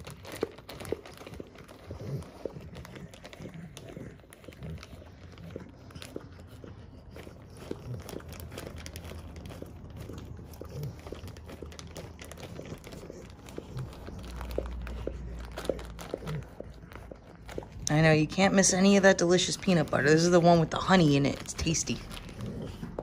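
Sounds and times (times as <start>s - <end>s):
dog licking plastic bag: 0.0s - 23.0s
plastic crinkling: 0.0s - 23.0s.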